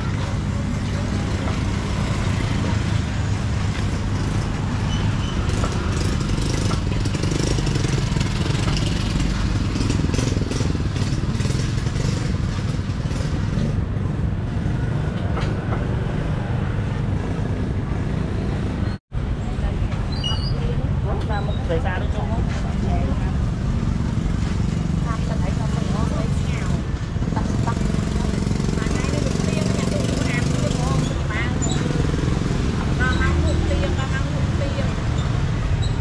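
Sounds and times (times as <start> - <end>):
motorbike and traffic engines humming: 0.0 - 36.0.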